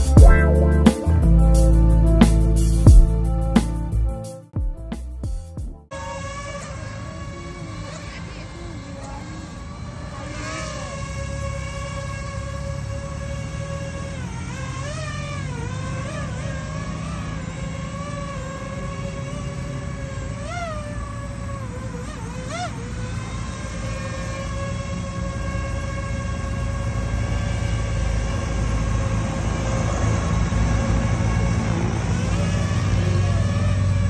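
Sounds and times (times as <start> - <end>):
road traffic rumble: 0.0 - 4.3, 5.9 - 34.0
drone propeller whine: 0.0 - 4.6, 5.9 - 34.0.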